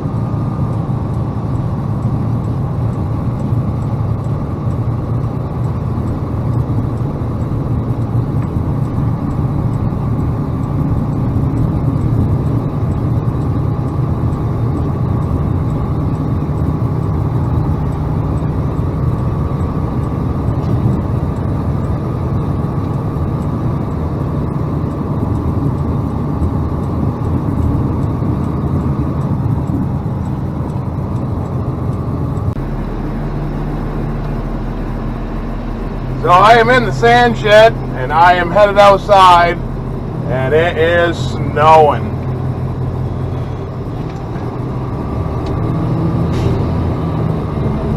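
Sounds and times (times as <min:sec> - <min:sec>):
diesel truck engine: 0:00.0 - 0:47.9
road noise: 0:00.0 - 0:47.9.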